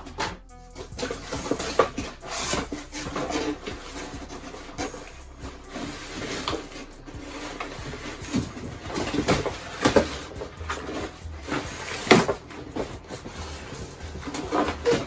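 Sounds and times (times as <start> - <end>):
packaging rubbing and scraping: 0.0 - 15.0.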